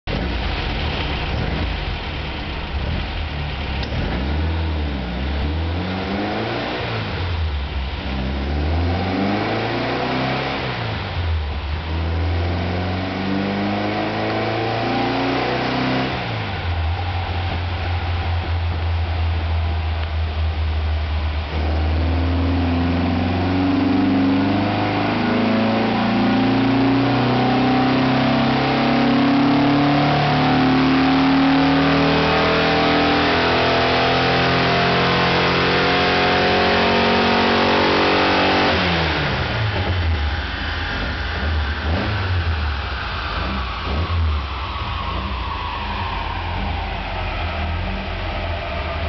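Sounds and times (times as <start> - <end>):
engine revving under load: 2.8 - 49.0.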